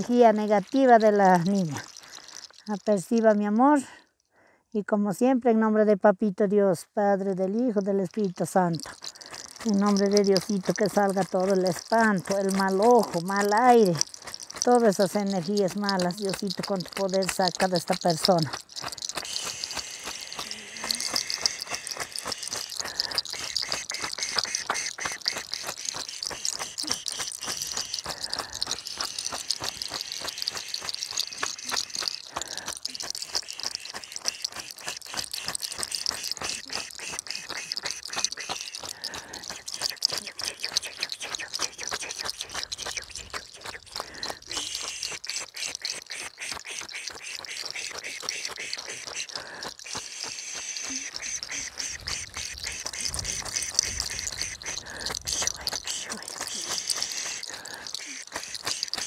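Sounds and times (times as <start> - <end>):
herb bundle crackling and rustling: 0.0 - 3.2, 8.1 - 59.0.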